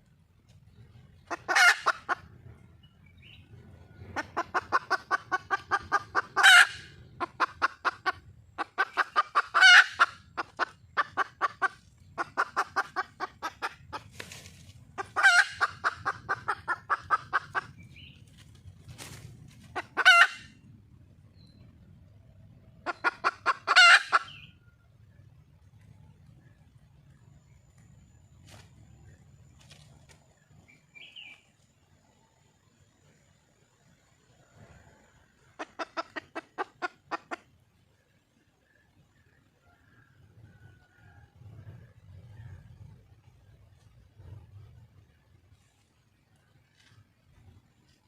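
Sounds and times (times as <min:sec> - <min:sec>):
hen clucking rapidly: 0:00.0 - 0:21.0, 0:21.6 - 0:27.8, 0:33.3 - 0:45.6.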